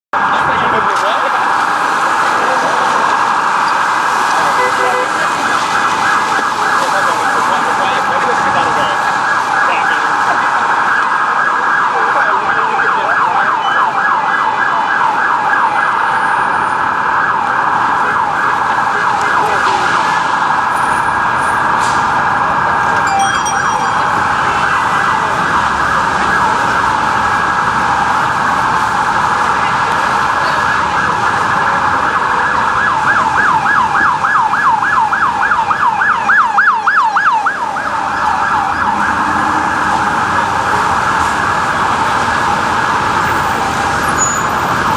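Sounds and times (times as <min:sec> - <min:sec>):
police siren yelping: 0:00.2 - 0:44.9.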